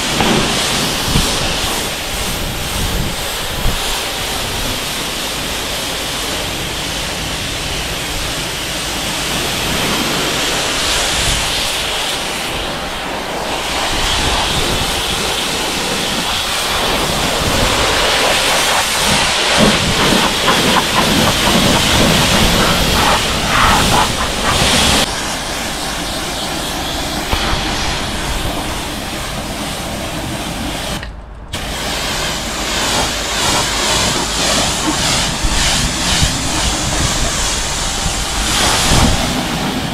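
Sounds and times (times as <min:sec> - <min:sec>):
pressure washer spraying: 0:00.0 - 0:31.0, 0:31.6 - 0:39.9.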